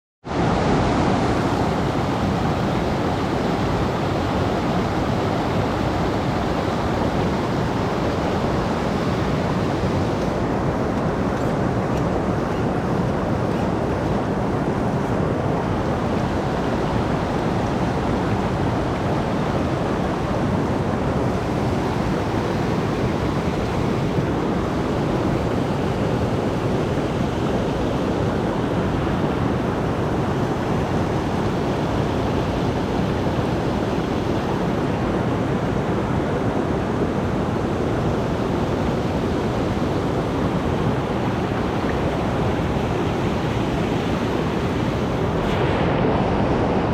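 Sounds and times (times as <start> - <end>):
mountain stream rushing: 0.2 - 46.9.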